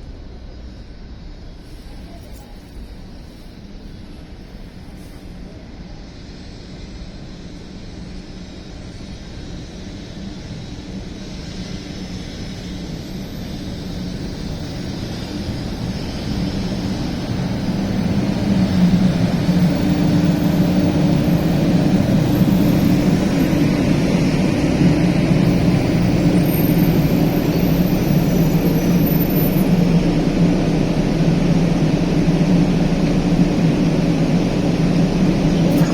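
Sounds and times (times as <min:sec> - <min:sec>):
train rumbling into station: 0:00.0 - 0:35.9.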